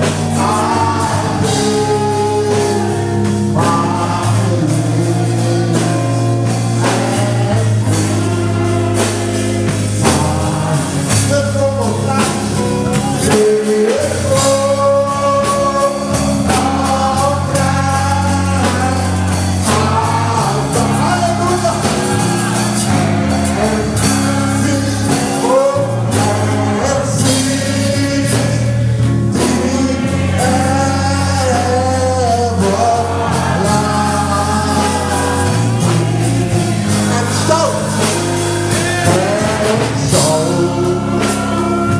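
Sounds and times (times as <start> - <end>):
bass line: 0.0 - 41.9
congregation singing: 0.0 - 41.9
electric guitar: 0.0 - 41.9.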